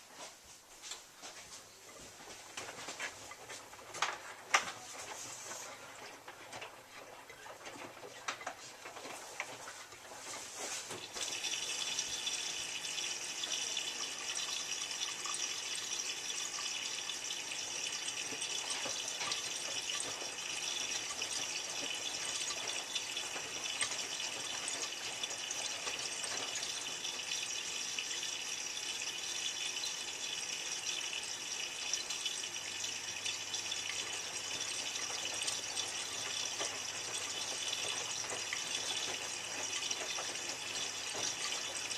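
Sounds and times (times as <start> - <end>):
water hissing into washing machine: 2.4 - 41.9.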